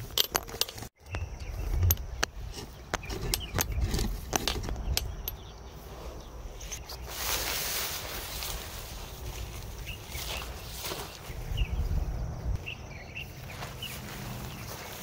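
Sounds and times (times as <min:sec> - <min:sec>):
wind buffeting microphone: 0:01.0 - 0:07.0, 0:07.9 - 0:14.8.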